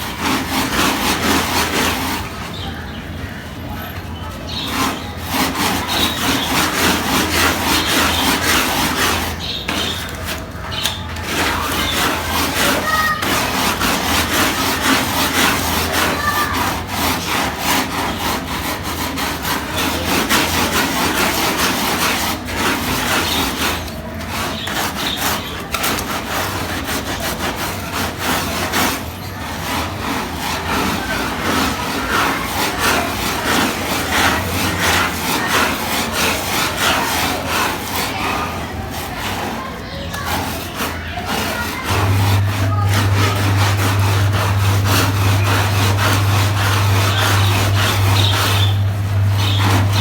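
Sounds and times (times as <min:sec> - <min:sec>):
scrubbing wet carpet: 0:00.0 - 0:03.4, 0:04.2 - 0:50.0.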